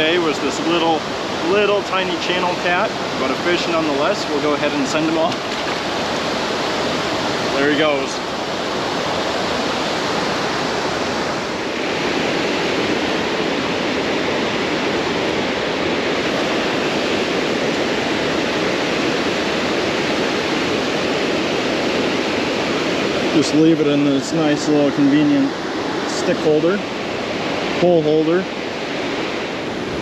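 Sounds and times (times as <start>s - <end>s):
river water rushing over dam: 0.0s - 30.0s.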